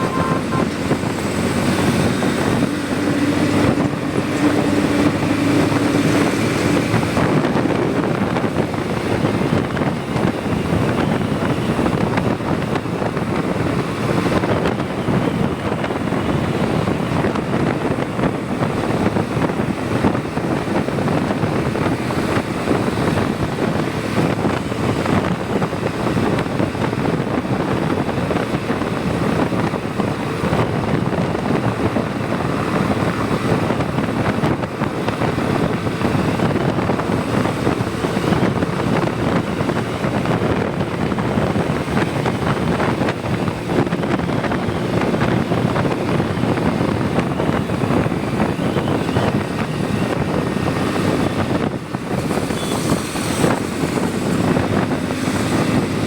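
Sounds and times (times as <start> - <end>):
motorcycle engine and road drone: 0.0 - 56.0
wind rushing over microphone: 0.0 - 56.0.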